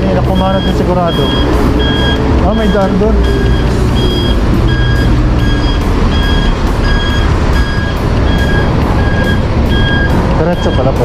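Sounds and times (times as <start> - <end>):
reversing alarm beeping: 0.1 - 11.0.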